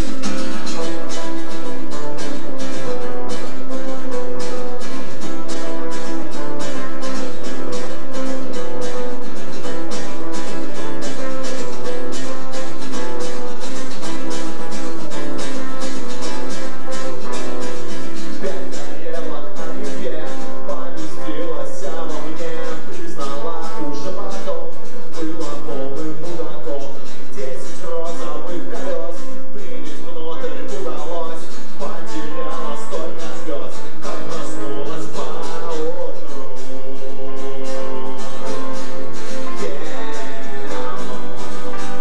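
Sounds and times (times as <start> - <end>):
strummed guitar chords: 0.0 - 42.0.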